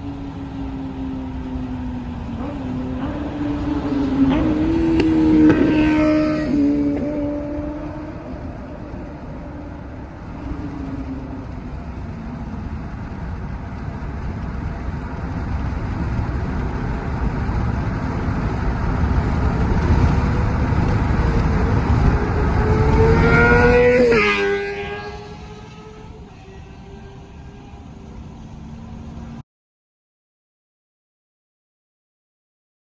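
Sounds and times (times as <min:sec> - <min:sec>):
motorcycle engine revving: 0:00.0 - 0:14.2, 0:15.1 - 0:29.3.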